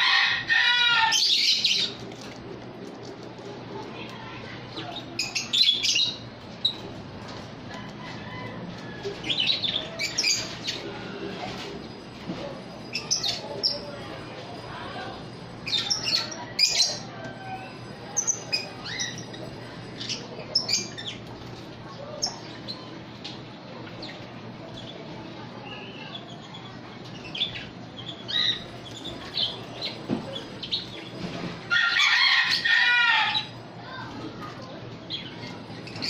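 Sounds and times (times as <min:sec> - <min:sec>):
birds chirping and squawking: 0:00.0 - 0:36.0.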